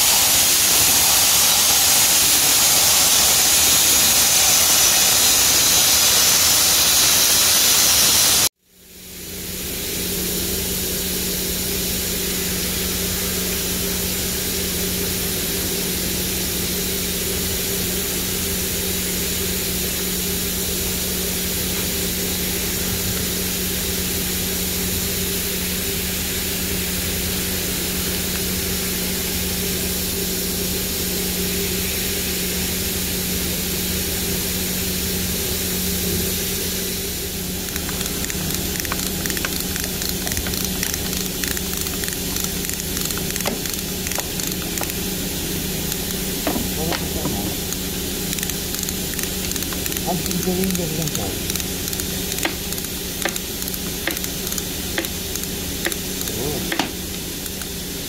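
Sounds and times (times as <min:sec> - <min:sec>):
sandblasting hiss: 0:00.0 - 0:58.0
machine hum: 0:09.1 - 0:58.0.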